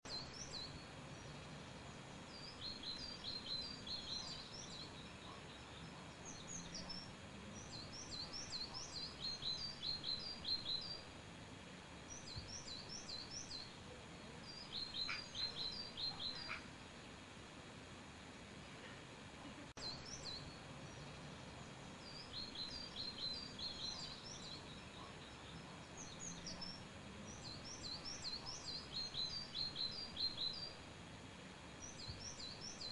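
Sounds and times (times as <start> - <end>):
faint steady background noise: 0.0 - 32.9
small birds chirping: 0.0 - 32.9.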